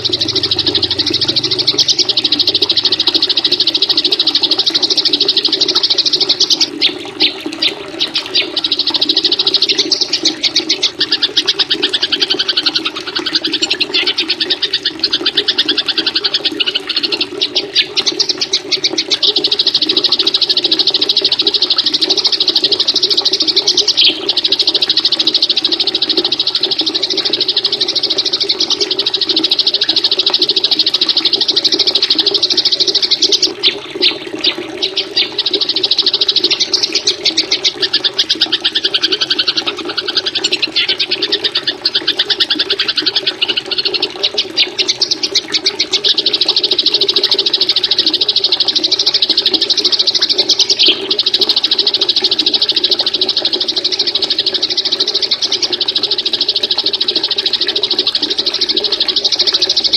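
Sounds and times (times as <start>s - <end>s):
low rushing water: 0.0s - 59.8s
songbirds chattering trills: 0.0s - 59.9s.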